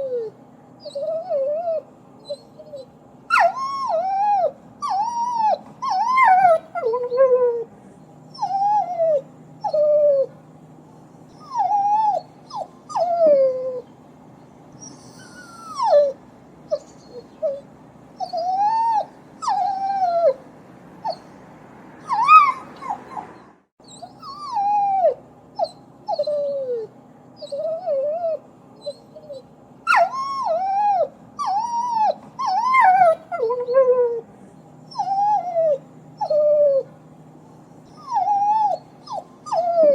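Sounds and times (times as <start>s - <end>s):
dog whimpering: 0.0s - 7.7s, 8.3s - 10.4s, 11.3s - 13.9s, 14.8s - 20.4s, 21.0s - 21.4s, 22.0s - 34.3s, 34.9s - 36.9s, 37.9s - 39.9s
faint steady hum: 0.0s - 39.9s.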